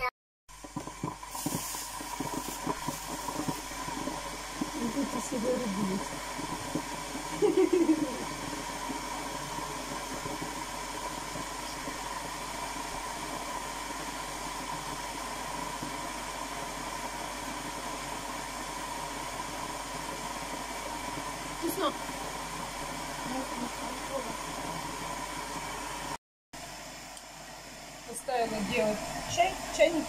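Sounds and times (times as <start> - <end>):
background hiss with steady tone: 0.5 - 30.0.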